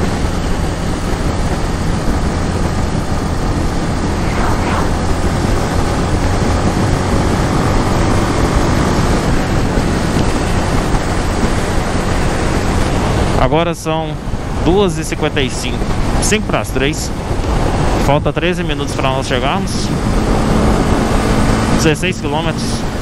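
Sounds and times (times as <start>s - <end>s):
wind rush on microphone: 0.0s - 23.0s.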